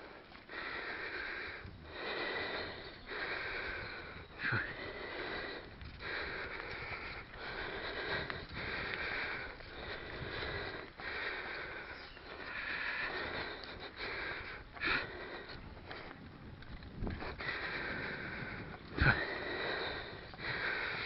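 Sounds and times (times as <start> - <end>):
cyclist breathing hard: 0.0 - 21.0.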